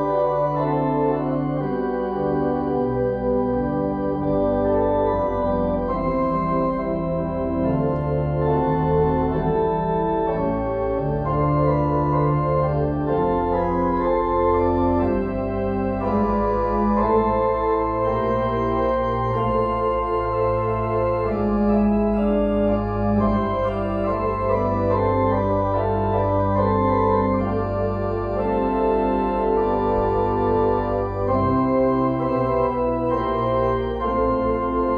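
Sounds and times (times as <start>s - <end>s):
low bass line: 0.0s - 34.9s
organ chords: 0.0s - 34.9s.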